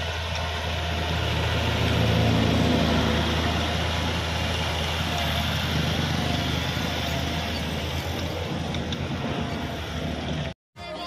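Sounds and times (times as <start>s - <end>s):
rotary tiller through soil: 0.0s - 10.5s
tractor diesel engine under load: 0.0s - 10.6s.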